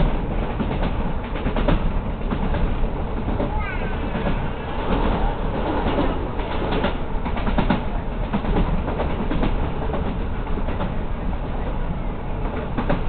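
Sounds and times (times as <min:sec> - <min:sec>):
wheels clicking over track: 0:00.0 - 0:11.0, 0:12.4 - 0:13.0
train rumble: 0:00.0 - 0:13.0.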